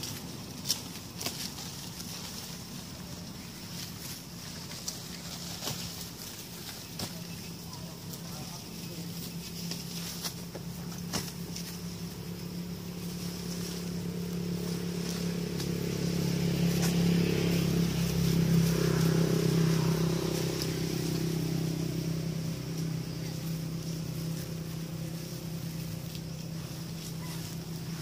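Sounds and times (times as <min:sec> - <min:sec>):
motor vehicle passing: 0:00.0 - 0:28.0.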